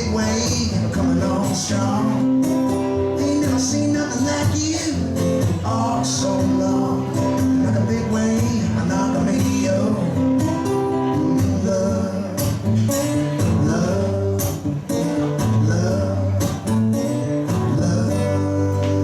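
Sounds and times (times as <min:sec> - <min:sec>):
live band guitar instrumental: 0:00.0 - 0:19.0.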